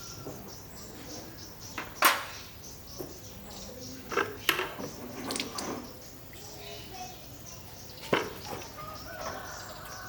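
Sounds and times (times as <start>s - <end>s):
birds chirping: 0.0s - 10.0s
insects chirping: 0.0s - 10.0s.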